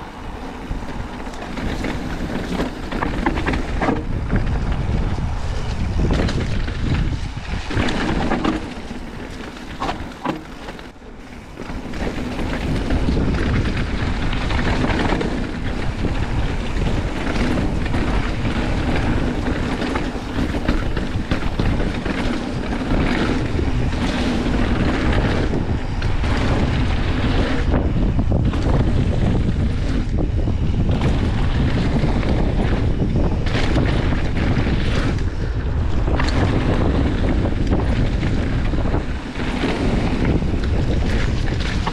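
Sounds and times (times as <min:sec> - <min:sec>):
bike tyres rolling on gravel: 0:00.0 - 0:41.9
wind buffeting microphone: 0:00.0 - 0:41.9
bike knocks and rattles: 0:00.4 - 0:41.9.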